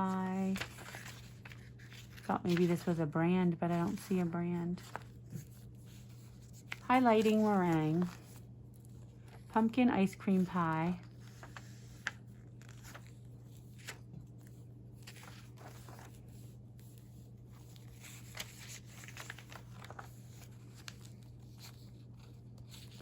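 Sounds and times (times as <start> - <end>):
paper pages rustling: 0.0 - 23.0.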